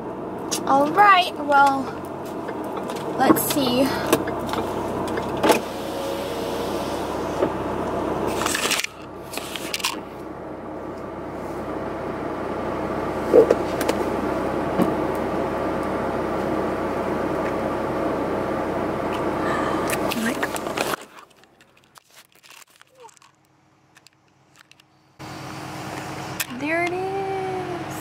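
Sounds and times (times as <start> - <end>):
car engine hum inside cabin: 0.0 - 22.0, 23.4 - 28.0.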